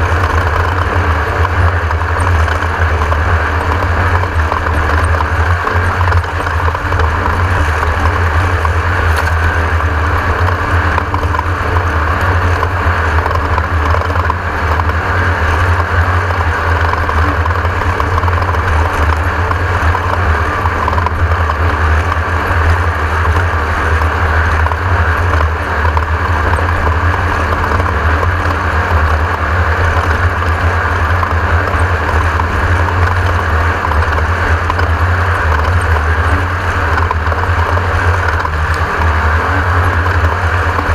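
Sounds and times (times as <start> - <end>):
off-road rattle: 0.0 - 40.9
race car engine droning: 0.0 - 40.9
wind: 0.0 - 40.9.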